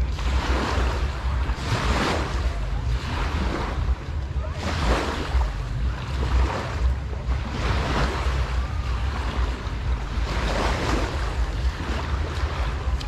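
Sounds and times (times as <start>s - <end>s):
small waves washing on sand: 0.0s - 13.0s
wind rumble on microphone: 0.0s - 13.0s.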